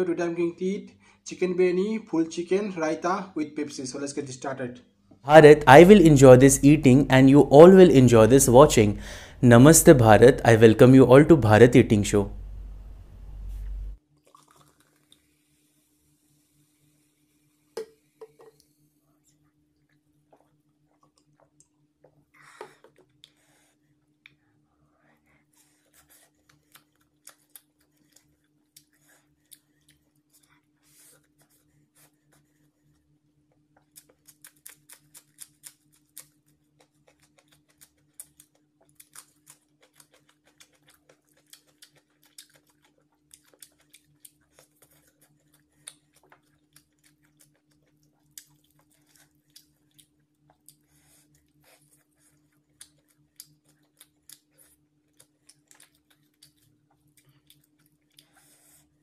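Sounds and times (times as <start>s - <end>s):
faint steady hum: 0.0s - 59.0s
close chewing and eating: 5.4s - 24.4s, 25.1s - 59.0s.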